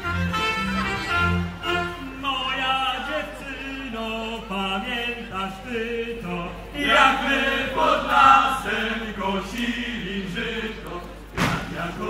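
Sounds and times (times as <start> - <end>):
folk choir singing: 1.6 - 12.0.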